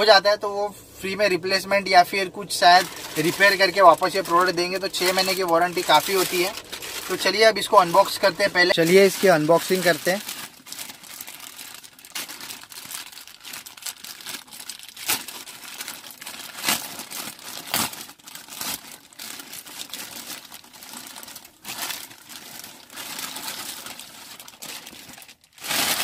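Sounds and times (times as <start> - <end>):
plastic mailer bag crinkling: 0.0 - 26.0.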